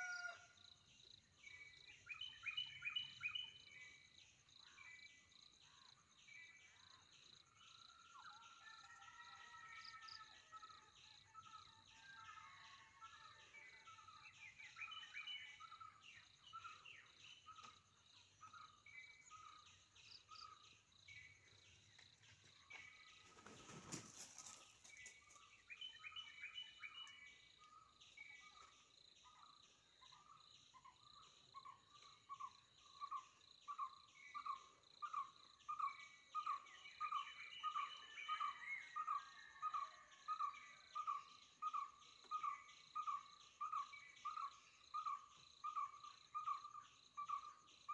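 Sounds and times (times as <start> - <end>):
insects buzzing and chirping: 0.0 - 47.9.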